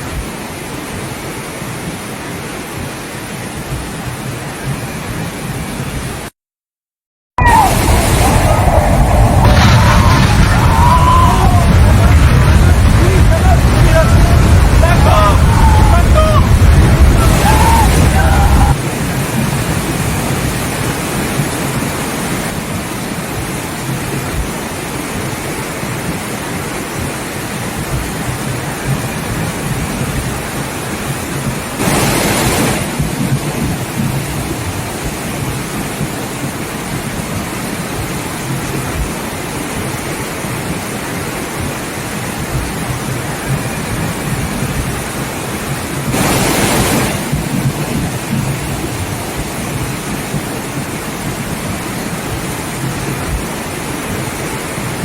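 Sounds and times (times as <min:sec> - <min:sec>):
water rushing: 0:00.0 - 0:06.4, 0:07.4 - 0:55.0.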